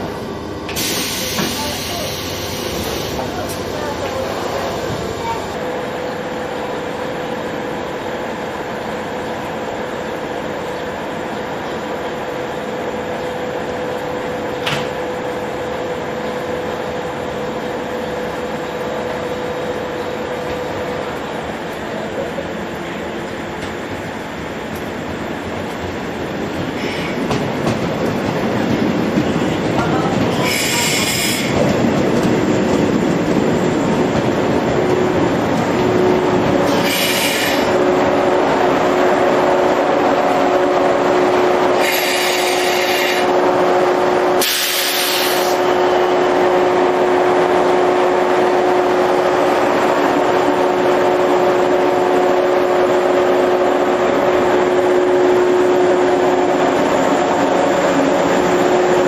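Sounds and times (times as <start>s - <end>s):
electric train humming: 0.0s - 59.0s.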